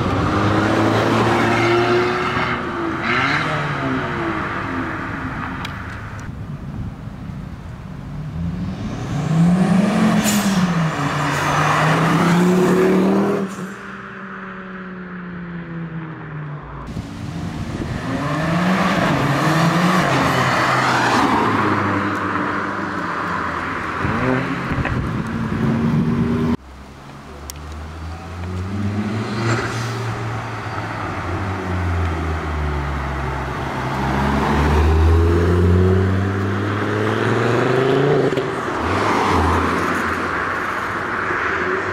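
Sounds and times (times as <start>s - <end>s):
cars accelerating: 0.0s - 6.3s, 8.2s - 14.6s, 16.8s - 26.6s, 27.4s - 41.9s.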